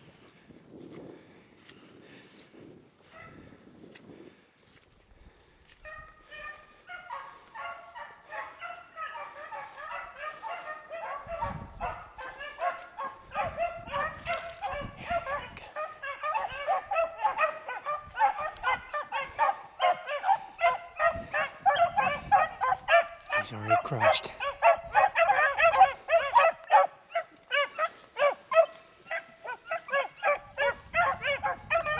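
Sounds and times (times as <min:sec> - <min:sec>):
pack of hounds baying: 0:05.8 - 0:31.9.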